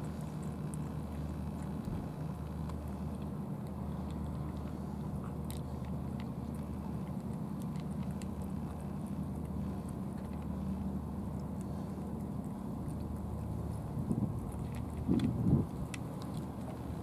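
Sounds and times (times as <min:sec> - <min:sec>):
cat chewing food: 0:00.0 - 0:17.0
low engine hum: 0:00.0 - 0:17.0.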